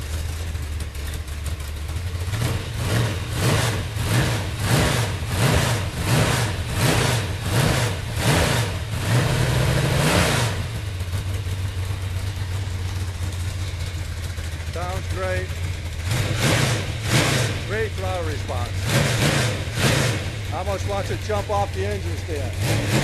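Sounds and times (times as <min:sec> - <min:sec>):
engine lumpy idle: 0:00.0 - 0:23.0
engine revving: 0:01.8 - 0:23.0.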